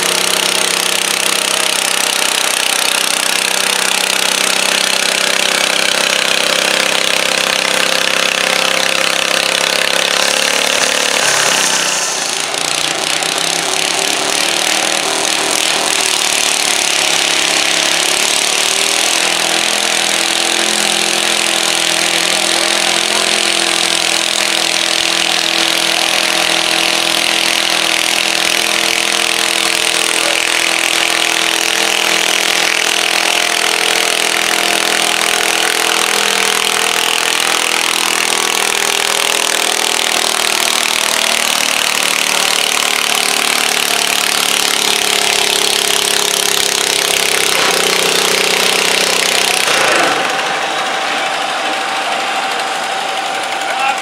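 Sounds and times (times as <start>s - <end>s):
garden tractor engines at high revs: 0.0s - 54.0s.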